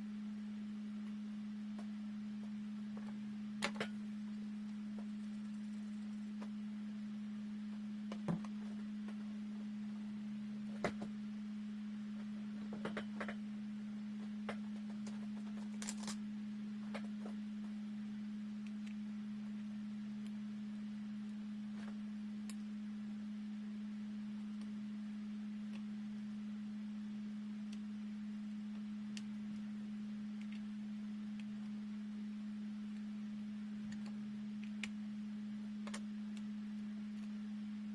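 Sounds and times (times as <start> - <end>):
low electrical hum: 0.0 - 37.9.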